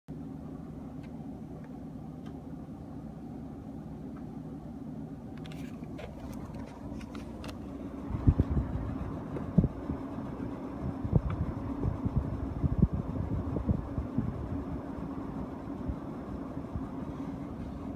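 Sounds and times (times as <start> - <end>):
air conditioner droning: 0.1 - 17.9.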